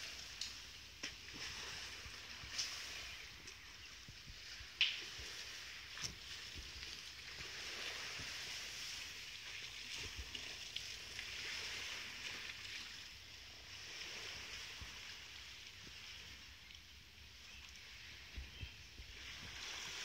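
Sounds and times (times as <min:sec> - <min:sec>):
water lapping at shore: 0:00.0 - 0:20.0
wind rumble on microphone: 0:00.8 - 0:12.4, 0:13.3 - 0:20.0.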